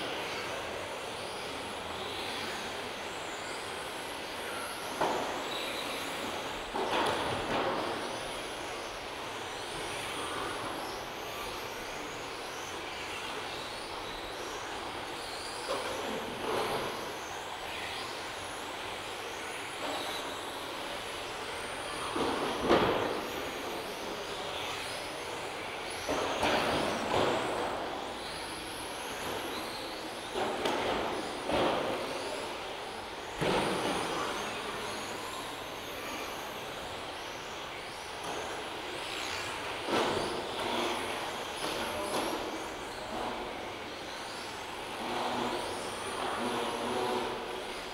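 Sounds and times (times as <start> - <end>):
rc car motor whine: 0.0 - 47.9.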